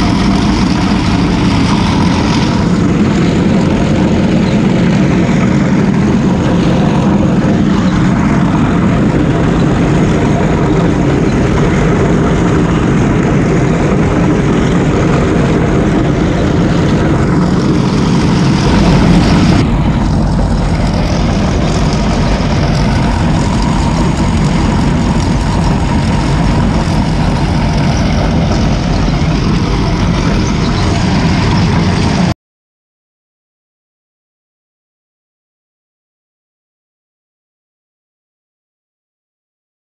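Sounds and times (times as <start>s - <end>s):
diesel engine running under load: 0.0s - 32.4s.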